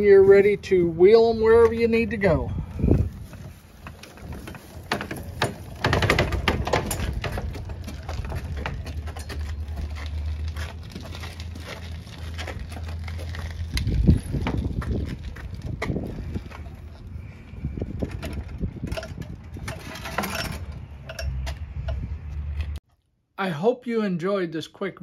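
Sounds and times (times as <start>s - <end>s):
dolly frame and chains rattling: 0.0s - 22.8s.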